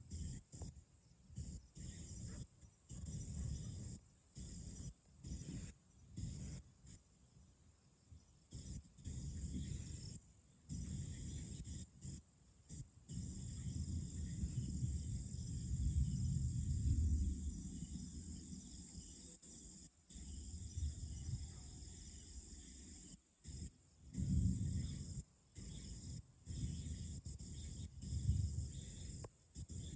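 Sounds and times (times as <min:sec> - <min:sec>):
night insects chirring: 0:00.0 - 0:29.9.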